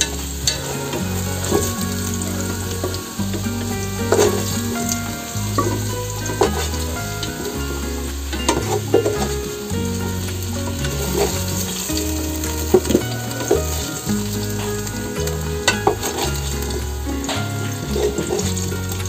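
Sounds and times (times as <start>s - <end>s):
garlic sizzling in hot oil: 0.0s - 19.0s.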